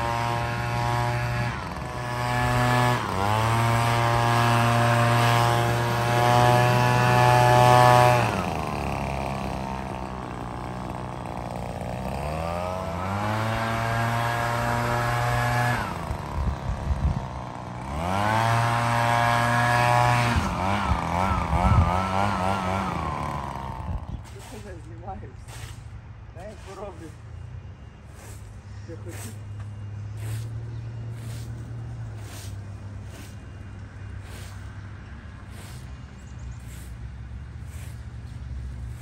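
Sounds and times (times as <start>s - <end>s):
leaf blower whining: 0.0s - 25.8s, 28.1s - 39.0s.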